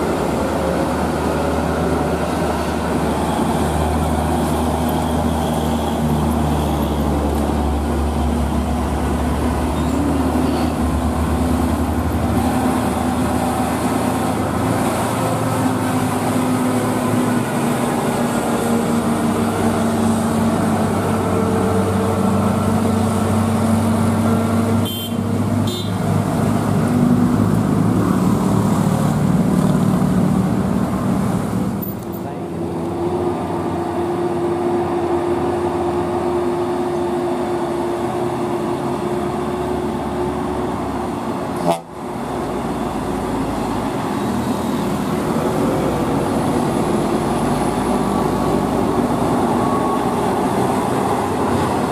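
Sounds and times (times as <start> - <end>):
diesel trucks labouring uphill: 0.0 - 51.9
passing road traffic: 0.0 - 51.9.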